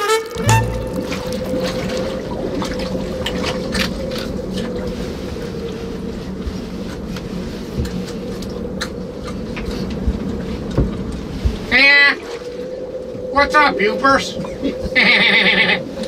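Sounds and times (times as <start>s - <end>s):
water sloshing and splashing: 0.0s - 13.4s.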